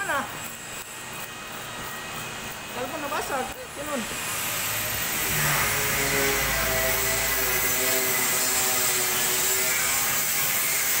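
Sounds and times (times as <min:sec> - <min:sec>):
power tool running with hiss: 0:00.0 - 0:11.0.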